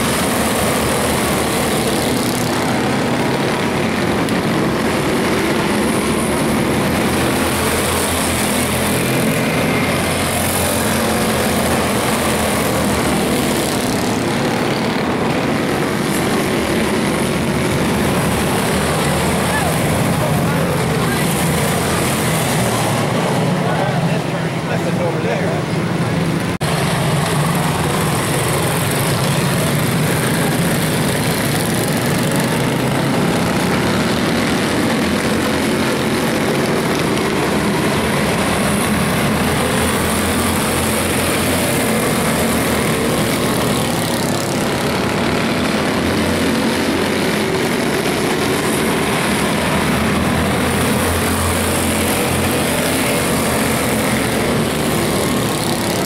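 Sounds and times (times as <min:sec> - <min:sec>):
small race car engines droning: 0:00.0 - 0:56.0.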